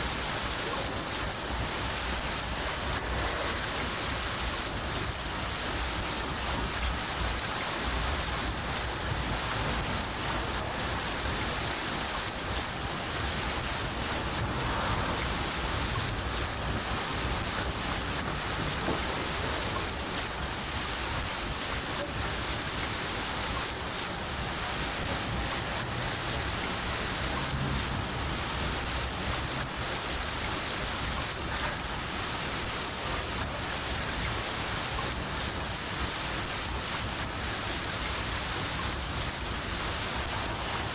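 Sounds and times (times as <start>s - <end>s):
cricket chirping: 0.0s - 40.9s
rain falling: 0.0s - 40.9s.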